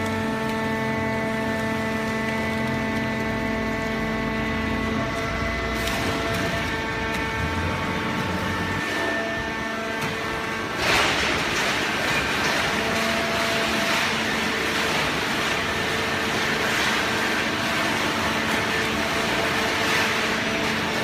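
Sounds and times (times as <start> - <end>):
paper baler running: 0.0 - 21.0.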